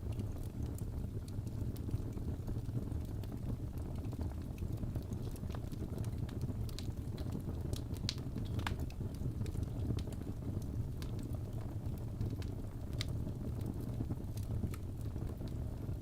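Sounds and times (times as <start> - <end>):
fire crackles and pops: 0.0 - 16.0
low rumble of fire: 0.0 - 16.0.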